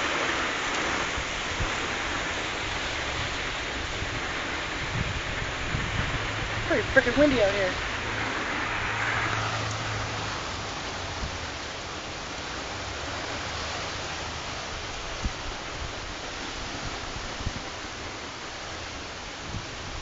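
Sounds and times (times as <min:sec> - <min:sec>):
storm wind with driving rain: 0:00.0 - 0:20.0
wind gusts buffeting microphone: 0:00.0 - 0:20.0.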